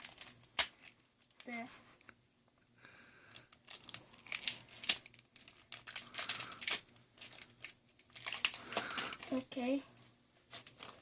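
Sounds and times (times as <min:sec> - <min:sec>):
foil wrapper crinkling: 0:00.0 - 0:01.6, 0:03.3 - 0:11.0.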